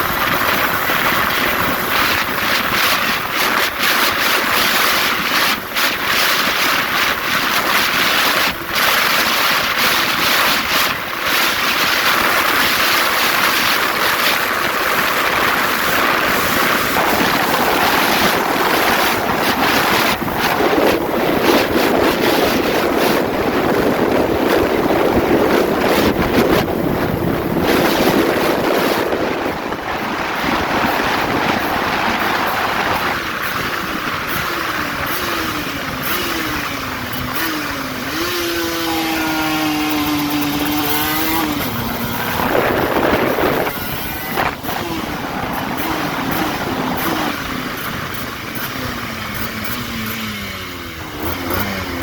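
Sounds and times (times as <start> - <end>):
motorcycle running noise: 0.0 - 52.0
wind rushing over microphone: 0.0 - 52.0.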